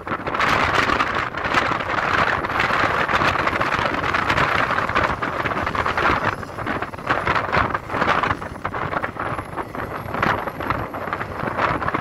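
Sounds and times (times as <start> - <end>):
wind buffeting microphone: 0.0 - 12.0
excavator diesel engine: 0.1 - 12.0.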